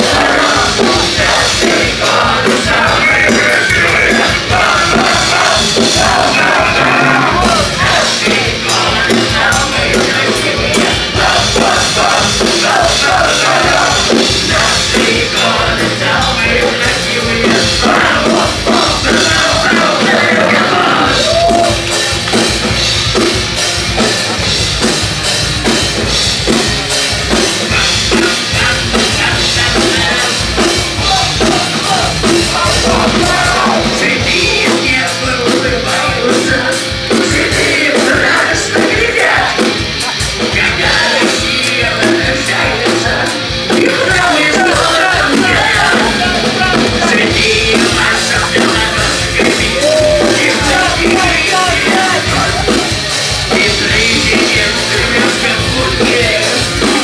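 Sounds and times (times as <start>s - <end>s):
singer shouting and singing: 0.0s - 22.0s, 27.7s - 57.0s
drum kit: 0.0s - 57.0s.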